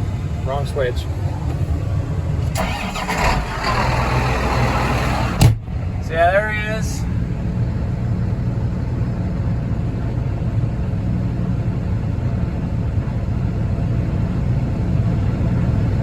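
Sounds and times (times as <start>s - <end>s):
tractor engine idling: 0.0s - 13.4s.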